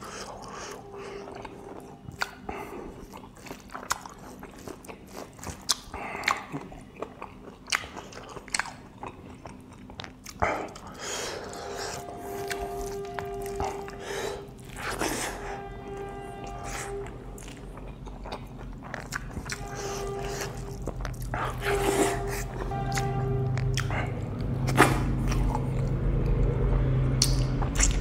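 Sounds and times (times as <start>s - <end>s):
chewing with wet smacks: 0.0s - 15.2s, 16.7s - 28.0s.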